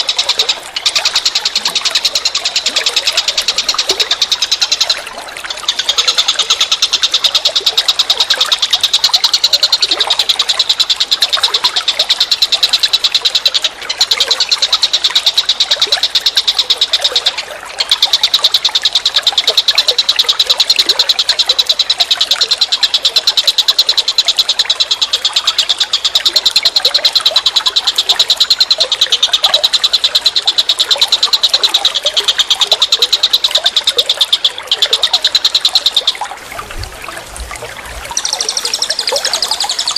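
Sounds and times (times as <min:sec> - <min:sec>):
animal high-pitched pulsing trill: 0:00.0 - 0:39.9.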